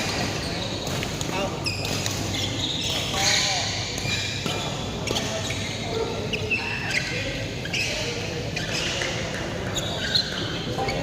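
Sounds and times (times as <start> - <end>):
shoes squeaking on court floor: 0.0 - 11.0.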